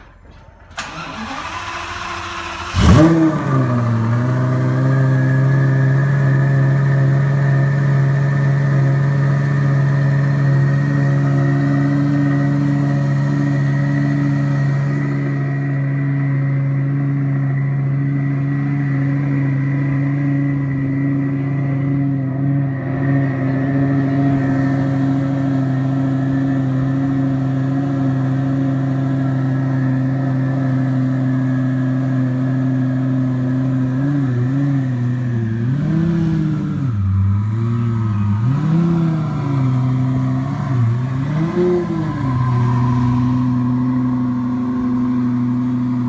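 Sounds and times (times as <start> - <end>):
sports car engine idling: 0.0 - 22.2, 23.2 - 46.0
engine revving: 0.7 - 22.0, 22.8 - 46.0.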